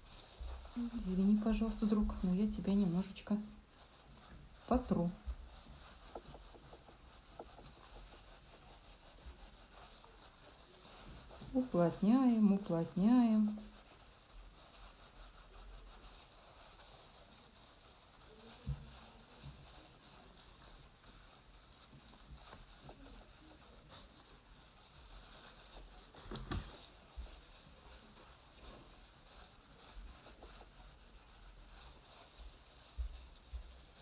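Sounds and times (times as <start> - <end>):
hands rubbing wool: 0.0 - 34.0.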